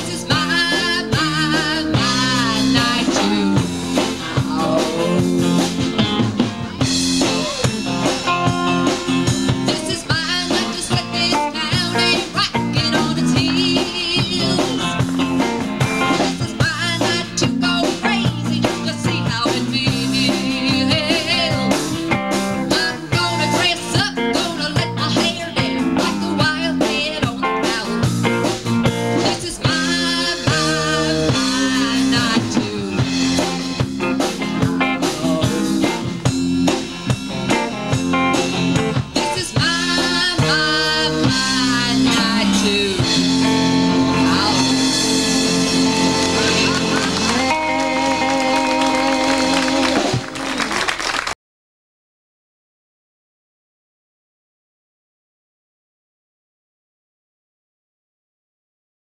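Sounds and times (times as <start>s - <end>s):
live blues-rock band: 0.0s - 51.3s.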